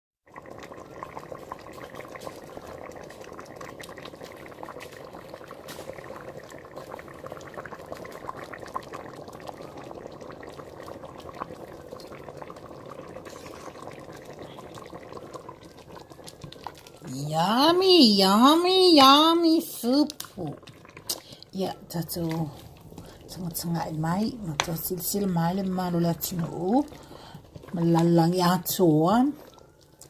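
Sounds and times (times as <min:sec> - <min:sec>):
soup bubbling at the boil: 0:00.2 - 0:30.0.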